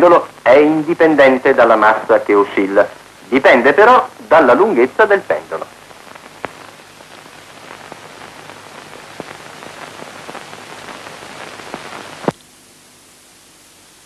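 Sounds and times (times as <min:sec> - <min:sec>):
film soundtrack crackling hiss: 0:00.0 - 0:14.0.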